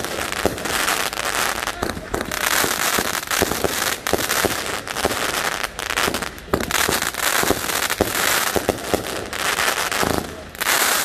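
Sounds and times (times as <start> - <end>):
crackling hiss: 0.0 - 11.0
firework cake firing shots: 0.0 - 11.0.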